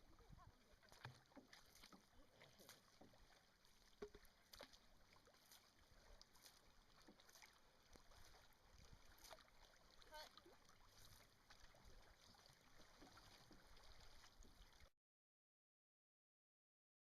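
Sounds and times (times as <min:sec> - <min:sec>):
paddles splashing in water: 0:00.0 - 0:14.9.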